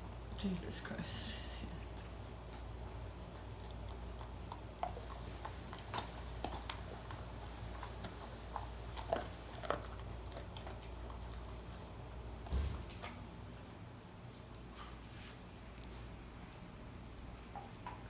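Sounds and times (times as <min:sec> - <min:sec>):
steady low hum: 0:00.0 - 0:18.0
dog chewing and crunching: 0:01.8 - 0:18.0.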